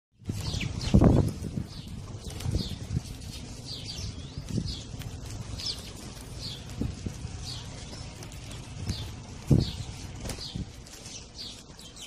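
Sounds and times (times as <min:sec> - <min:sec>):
low thumps and rumbles: 0:00.2 - 0:11.1
sparrows chirping: 0:00.2 - 0:12.0.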